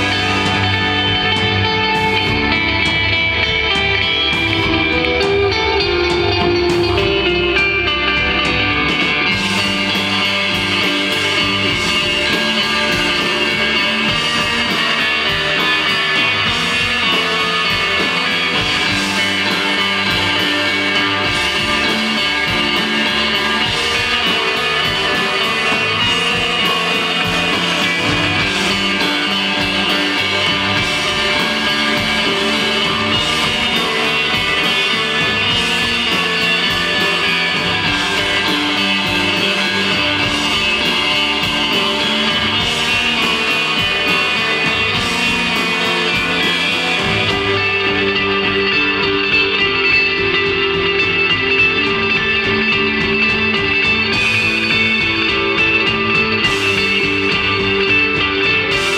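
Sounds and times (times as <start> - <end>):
rock band playing live: 0.0 - 58.9.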